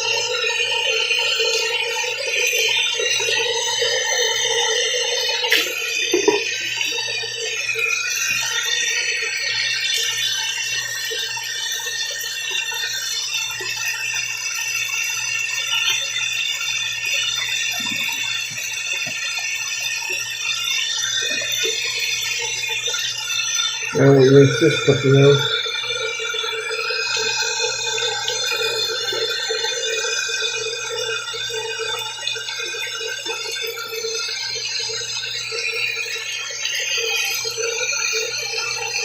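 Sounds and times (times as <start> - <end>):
tap water running into sink: 0.0 - 39.0.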